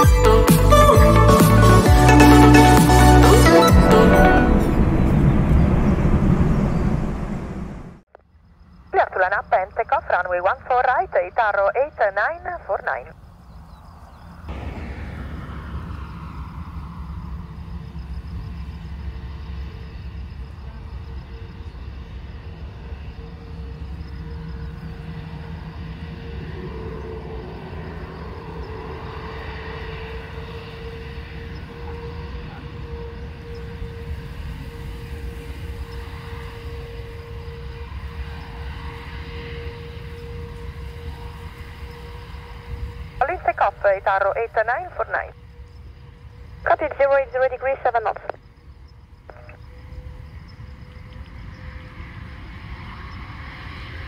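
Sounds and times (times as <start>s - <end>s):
jet engine whine falling in pitch: 1.0s - 54.0s
jet engines at takeoff thrust: 3.8s - 54.0s.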